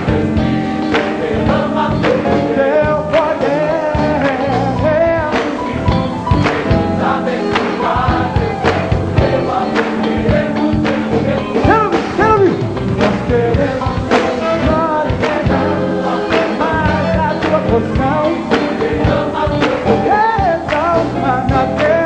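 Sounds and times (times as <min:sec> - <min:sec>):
drums keeping a beat: 0:00.0 - 0:22.0
gospel choir singing: 0:00.0 - 0:22.0.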